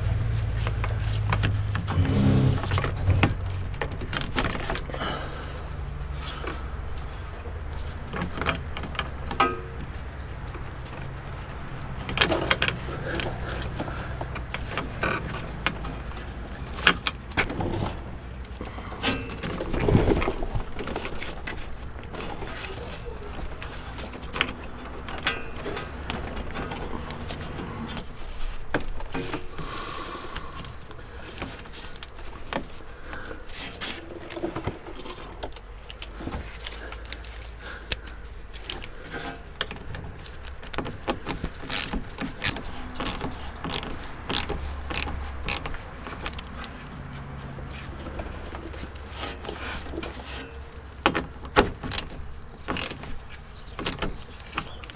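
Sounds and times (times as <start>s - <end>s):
hand tools clicking and clanking: 0.2s - 54.9s.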